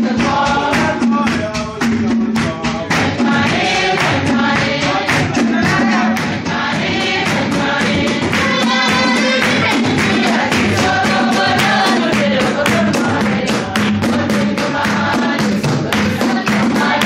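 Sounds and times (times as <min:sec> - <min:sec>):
group of voices singing: 0:00.0 - 0:17.0
steady beat: 0:00.0 - 0:17.0.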